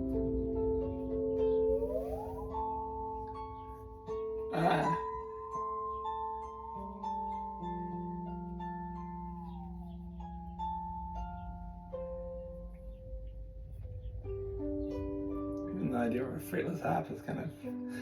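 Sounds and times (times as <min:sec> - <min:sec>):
plucked harp-like synth notes: 0:00.0 - 0:18.0.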